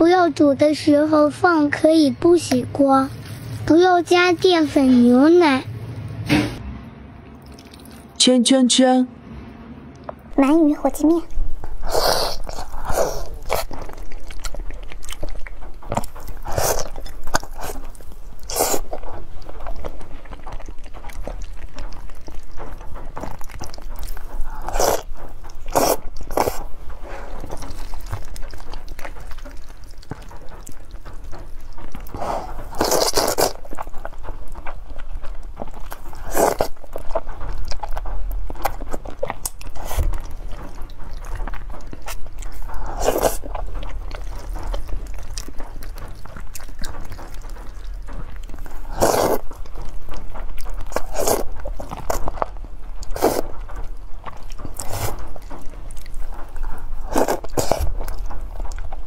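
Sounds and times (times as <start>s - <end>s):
close chewing and biting: 7.4s - 8.2s, 10.0s - 59.0s.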